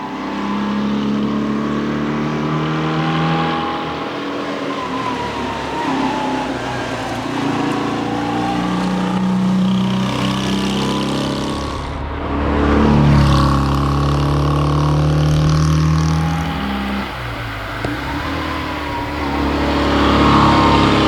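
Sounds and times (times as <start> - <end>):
engine accelerating hard: 0.0 - 21.0.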